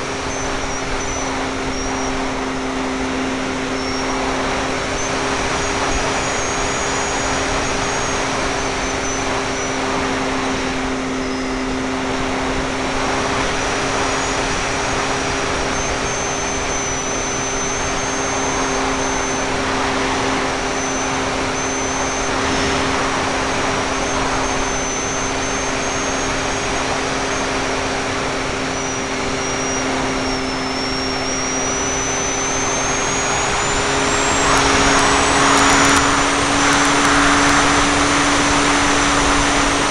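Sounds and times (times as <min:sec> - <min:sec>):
electric motor and propeller whine: 0:00.0 - 0:39.9
rushing airflow over microphone: 0:00.0 - 0:39.9.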